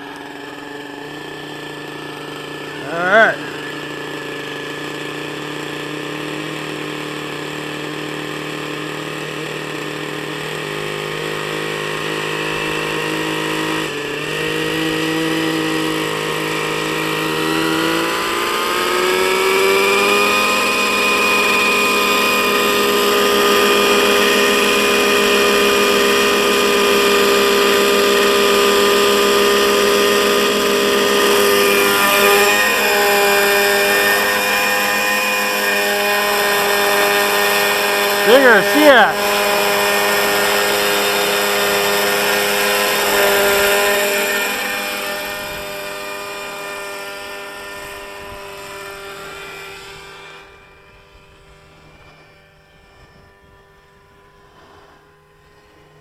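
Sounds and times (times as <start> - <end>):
model helicopter engine running: 0.0 - 56.0.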